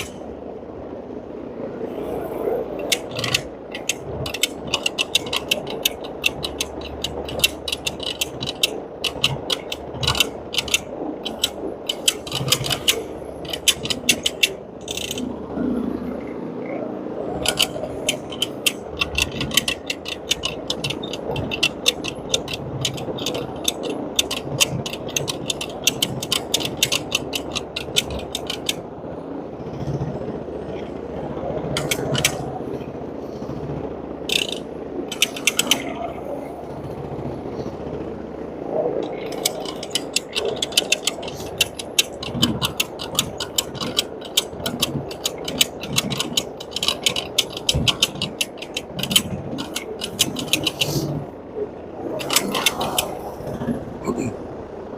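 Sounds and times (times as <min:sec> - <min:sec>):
rapid irregular clicking and rattling: 0:00.0 - 0:00.8, 0:01.9 - 0:54.9.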